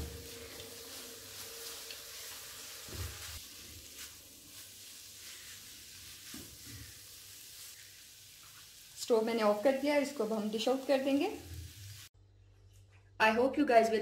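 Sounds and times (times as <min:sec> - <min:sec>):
food sizzling in a pan: 0:00.0 - 0:12.2.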